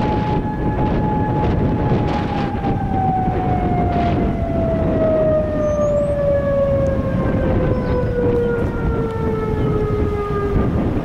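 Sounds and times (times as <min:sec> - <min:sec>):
tornado siren falling tone: 0:00.0 - 0:11.0
wind rumble on microphone: 0:00.0 - 0:11.0.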